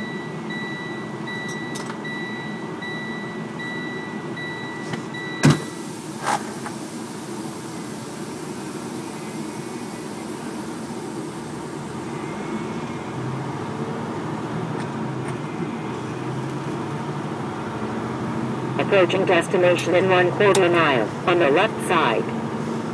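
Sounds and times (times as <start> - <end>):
truck engine and road noise: 0.0 - 22.9.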